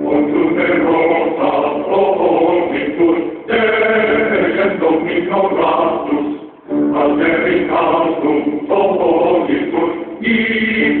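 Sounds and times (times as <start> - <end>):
voices singing together: 0.0 - 11.0.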